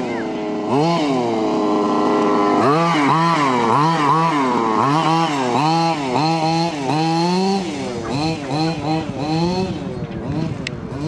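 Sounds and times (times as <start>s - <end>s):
rc truck engine revving: 0.0s - 11.0s.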